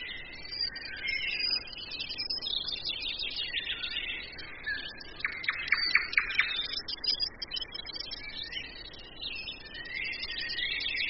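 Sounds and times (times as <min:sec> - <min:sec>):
songbirds singing and chirping: 0:00.0 - 0:11.0.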